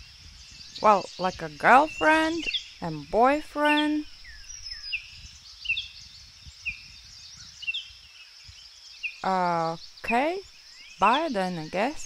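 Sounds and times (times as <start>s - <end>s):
bird chirping: 0.0s - 12.0s
insect buzz: 0.0s - 12.0s.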